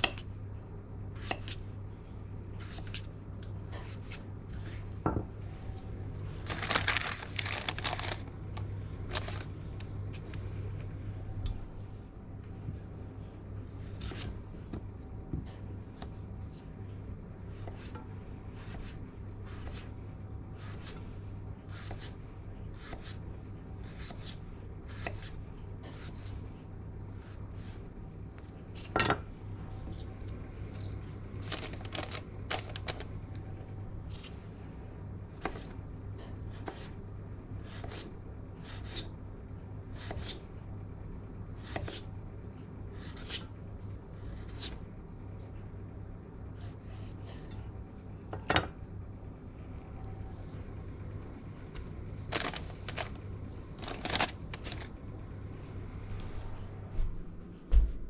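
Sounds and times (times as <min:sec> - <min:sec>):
low hum: 0:00.2 - 0:36.3, 0:40.5 - 0:58.0.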